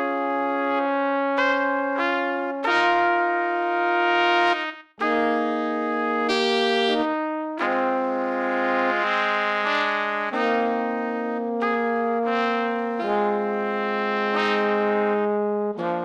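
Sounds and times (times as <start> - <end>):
slow brass chords: 0.0 - 16.0.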